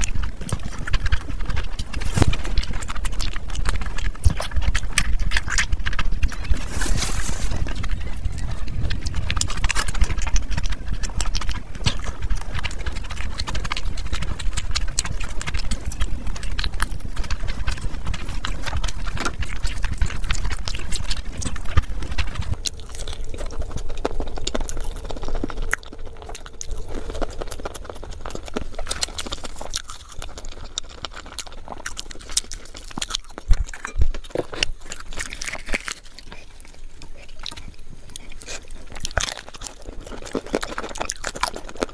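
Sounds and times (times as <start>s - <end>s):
chewing and lip-smacking: 0.0s - 41.9s.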